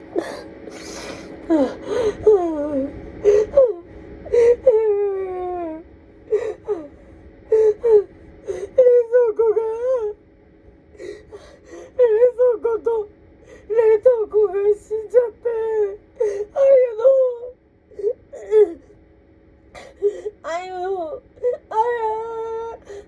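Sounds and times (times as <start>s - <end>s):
woman sobbing and wailing: 0.0s - 10.2s, 11.0s - 18.9s, 19.8s - 23.0s.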